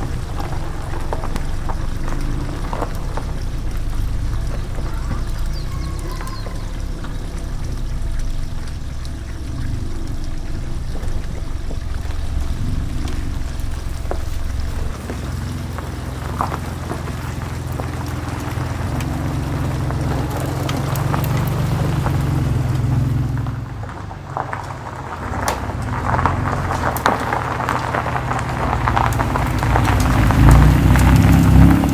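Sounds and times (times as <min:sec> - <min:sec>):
vehicle engine droning: 0:00.0 - 0:31.9.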